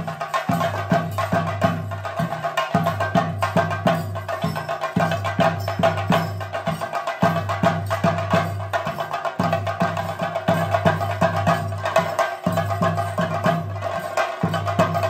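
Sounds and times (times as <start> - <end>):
drums beating steady rhythm: 0.0 - 15.0.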